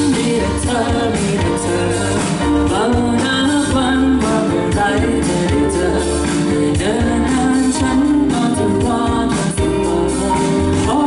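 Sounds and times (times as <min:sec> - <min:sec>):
backing music with bass line: 0:00.0 - 0:11.0
person singing into a microphone: 0:00.0 - 0:11.0.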